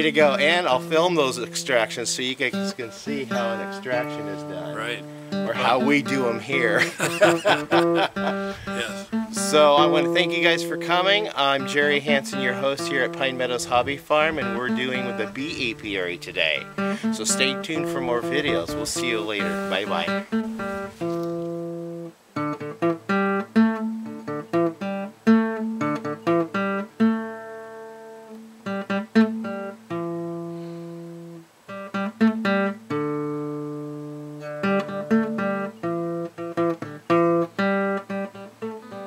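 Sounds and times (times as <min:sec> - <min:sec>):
acoustic guitar plucked and strummed: 0:00.0 - 0:39.0.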